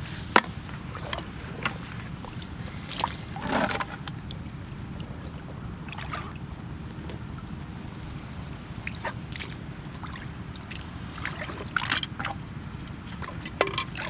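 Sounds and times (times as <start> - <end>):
low rumble of shore ambience: 0.0 - 14.0.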